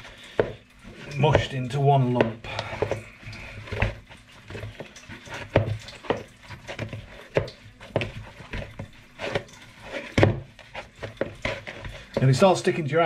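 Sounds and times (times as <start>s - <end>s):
hands squelching dough: 0.0s - 13.0s.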